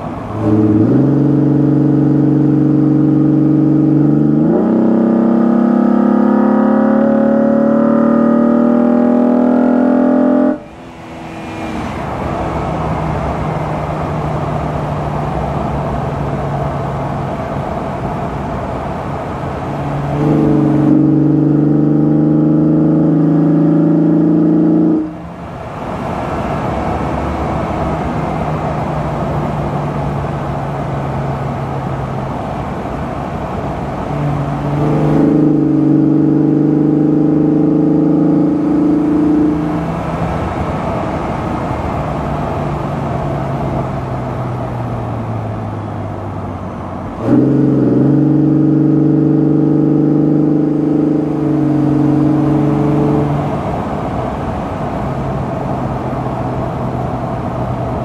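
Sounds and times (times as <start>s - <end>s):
car engine droning at speed: 0.0s - 58.0s.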